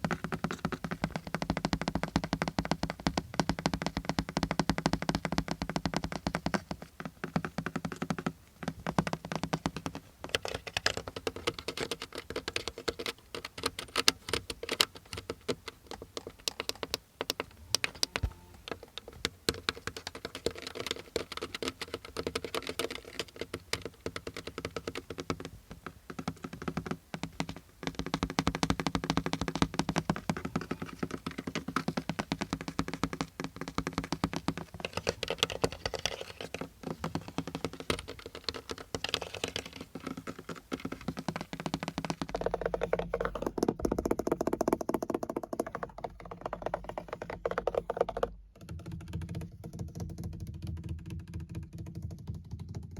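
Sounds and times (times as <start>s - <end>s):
rapid tapping on car surfaces: 0.0s - 52.9s.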